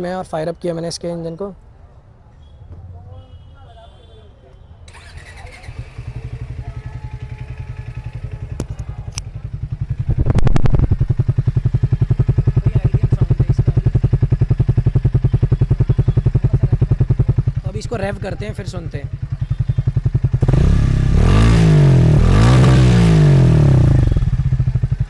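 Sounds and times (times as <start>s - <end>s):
motorcycle engine idling: 4.9s - 25.0s.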